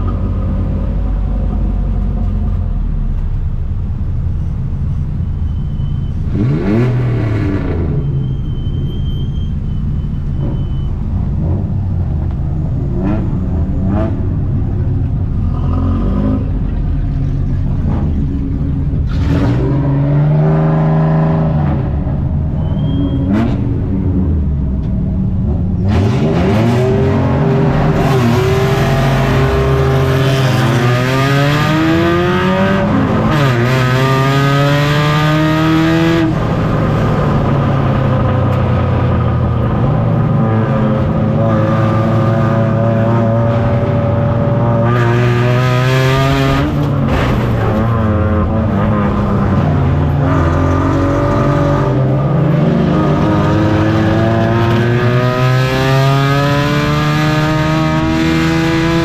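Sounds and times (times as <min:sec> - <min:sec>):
race truck engines revving: 0:00.0 - 0:59.0.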